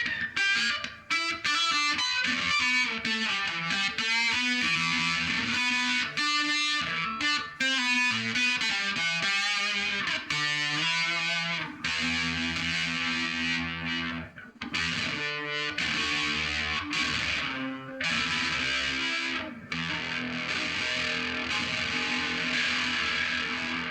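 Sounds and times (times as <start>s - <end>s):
fuzz electric guitar: 0.0s - 23.9s.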